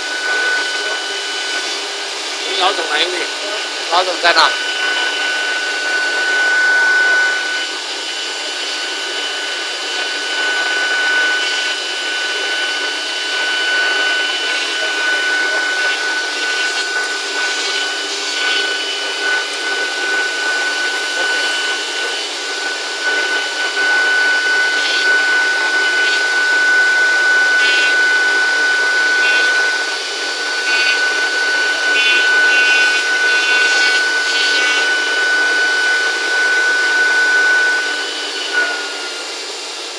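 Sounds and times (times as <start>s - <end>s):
cutter routing wood: 0.0s - 39.9s
router spindle whine: 0.0s - 39.9s.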